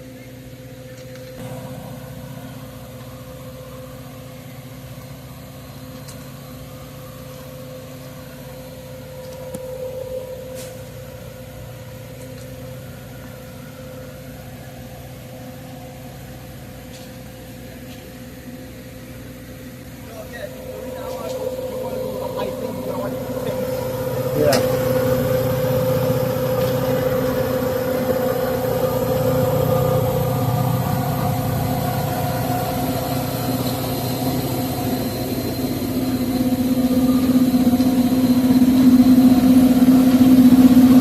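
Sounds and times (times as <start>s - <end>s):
vehicle engine idling: 0.0s - 41.0s.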